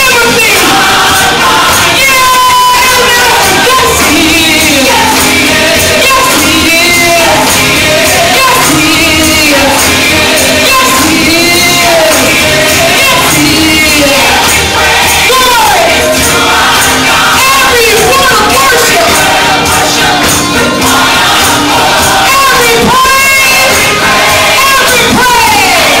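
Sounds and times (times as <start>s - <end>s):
congregation singing: 0.0s - 26.0s
lead singer: 0.0s - 26.0s
percussion keeping time: 0.0s - 26.0s.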